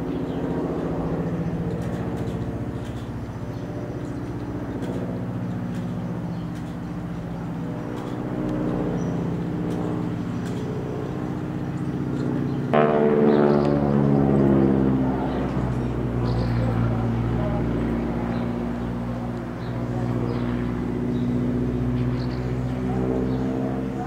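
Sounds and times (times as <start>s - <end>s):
biplane piston engine overhead: 0.0s - 24.0s.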